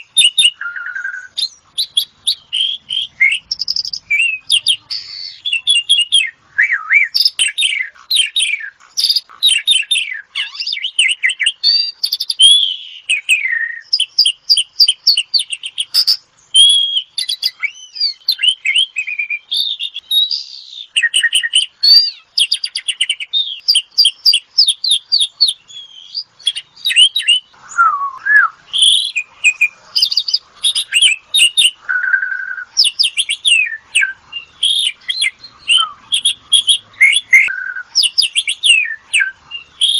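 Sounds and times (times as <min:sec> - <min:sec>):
starling singing trills and whistles: 0:00.0 - 0:39.9.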